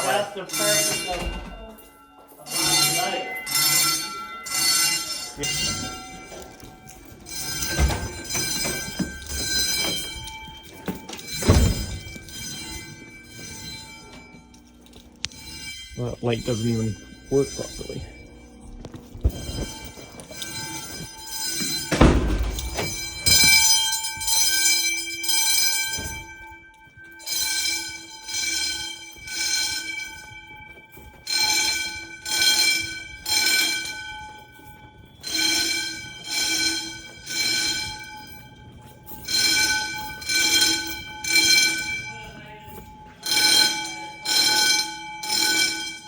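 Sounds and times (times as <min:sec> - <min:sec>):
fire alarm bells ringing: 0:00.0 - 0:46.0.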